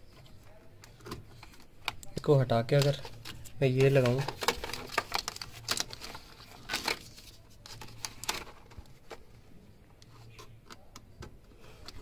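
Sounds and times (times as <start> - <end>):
plastic connector clicks and rustles: 0.8 - 9.2, 10.0 - 12.0.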